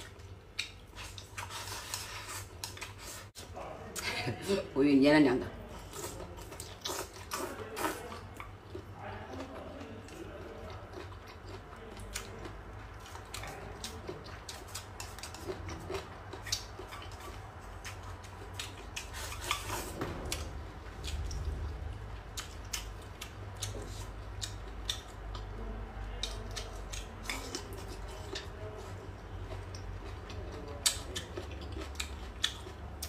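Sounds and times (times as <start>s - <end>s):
biting and chewing food: 5.8s - 33.0s.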